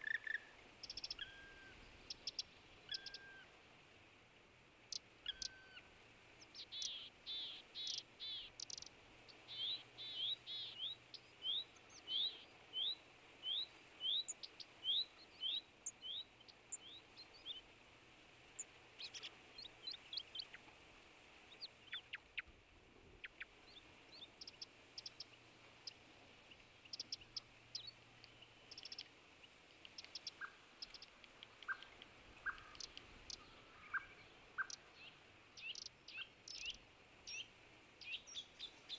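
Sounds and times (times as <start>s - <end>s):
songbirds whistling and chirping: 0.0s - 3.5s, 4.9s - 17.6s, 18.6s - 20.6s, 21.5s - 22.5s, 23.2s - 38.9s.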